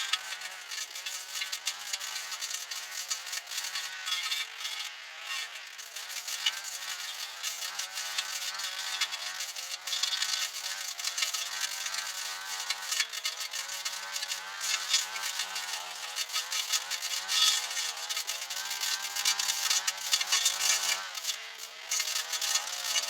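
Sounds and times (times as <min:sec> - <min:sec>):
small two-stroke engine at high revs: 0:00.0 - 0:23.0.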